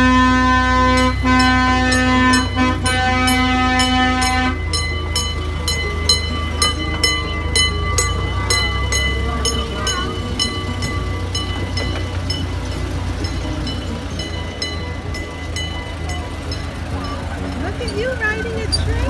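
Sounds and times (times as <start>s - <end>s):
miniature train horn: 0.0s - 16.3s
bell ringing: 0.0s - 19.0s
train rumbling along track: 0.0s - 19.0s.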